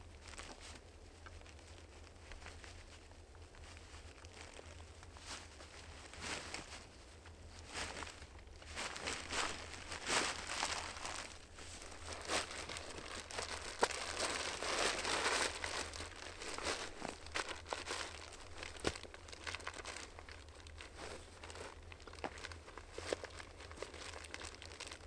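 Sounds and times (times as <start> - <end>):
cloth and burlap rustling: 0.0 - 25.0.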